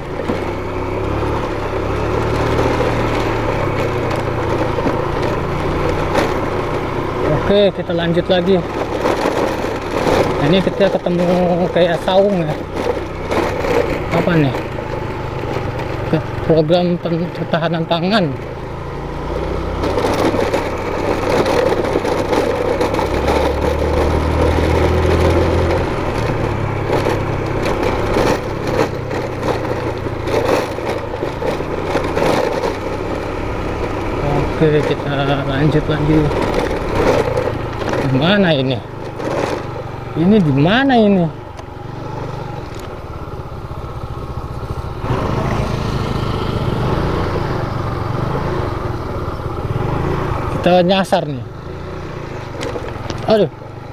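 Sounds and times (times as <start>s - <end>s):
motorcycle engine running: 0.0s - 53.9s
rough crackling noise: 0.0s - 53.9s.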